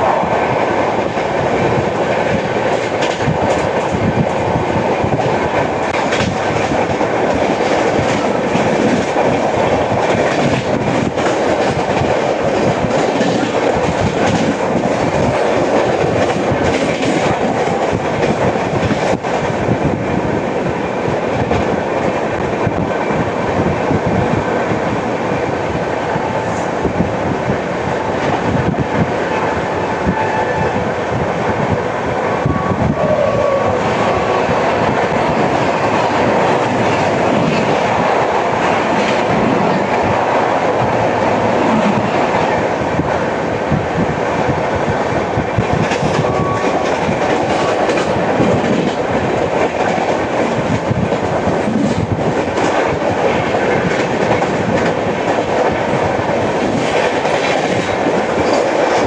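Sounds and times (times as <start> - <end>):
train wheels clattering over track: 0.0 - 59.0.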